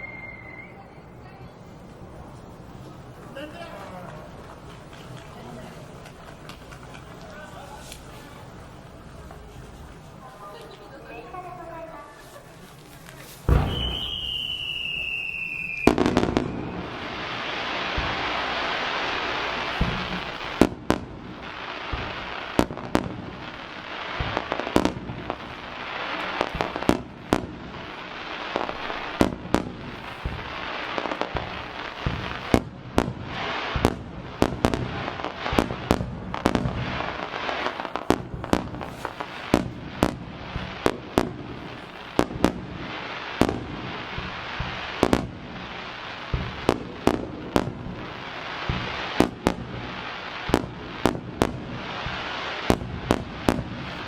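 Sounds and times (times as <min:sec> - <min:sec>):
fireworks shells bursting: 0:00.0 - 0:01.1, 0:01.8 - 0:54.0
fireworks crackle: 0:00.0 - 0:54.0.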